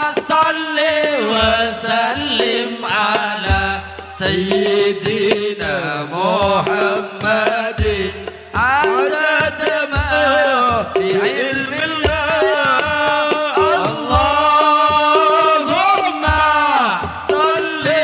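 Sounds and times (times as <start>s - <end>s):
deep drum beats: 0.0s - 18.0s
ornamented sung melody: 0.0s - 18.0s.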